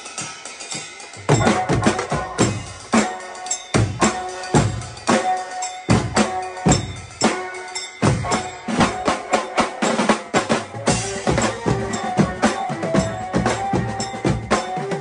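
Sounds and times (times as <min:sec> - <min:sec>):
tom drums beaten fast: 0:00.0 - 0:15.0.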